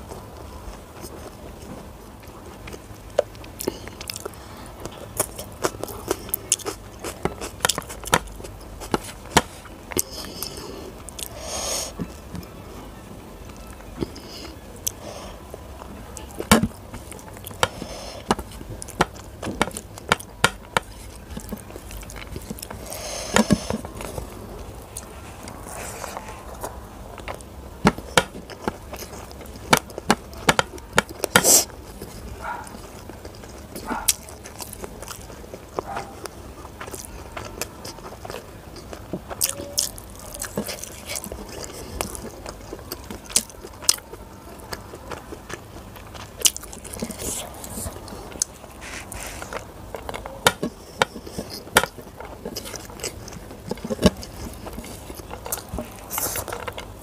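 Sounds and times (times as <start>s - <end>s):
rice and curry squishing by hand: 0.0s - 57.0s
chewing with wet mouth clicks: 2.0s - 11.4s, 13.5s - 57.0s.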